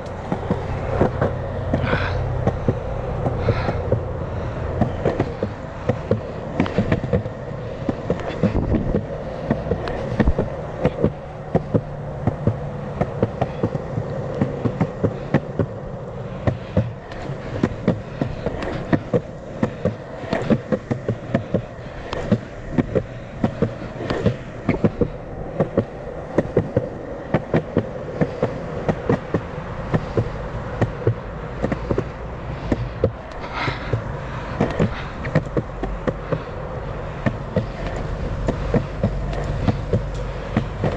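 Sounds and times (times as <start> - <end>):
longboard rolling on concrete: 0.0 - 40.9
wheels clicking over seams: 0.0 - 40.9.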